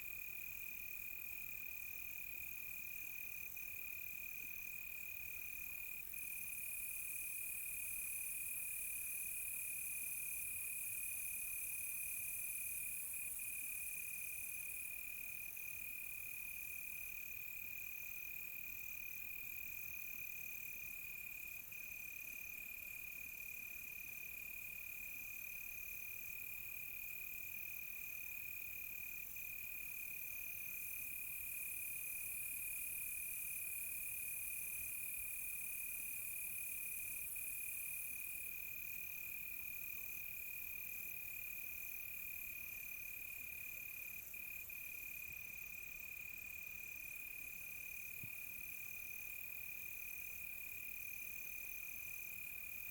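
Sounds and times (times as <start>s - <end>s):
crickets trilling steadily: 0.0s - 52.9s.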